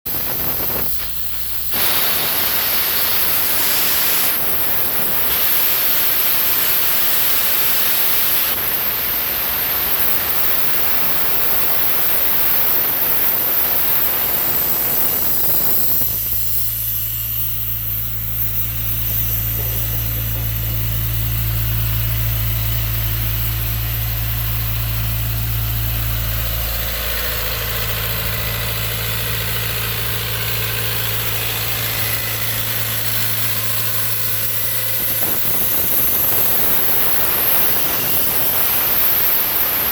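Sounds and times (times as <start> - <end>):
air compressor rushing hiss: 0.1 - 39.9
engine idling low hum: 6.0 - 39.8.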